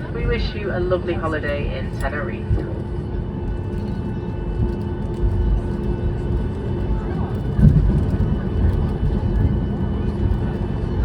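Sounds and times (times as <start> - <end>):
airliner cabin engine hum: 0.0 - 11.0
faint passenger voices: 0.0 - 11.0.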